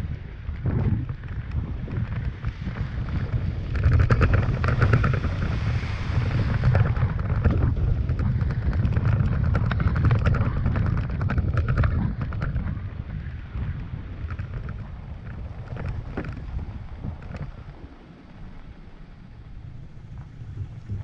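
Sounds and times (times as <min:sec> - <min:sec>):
truck engine low rumble: 0:00.0 - 0:21.0
wind buffeting microphone: 0:00.0 - 0:21.0.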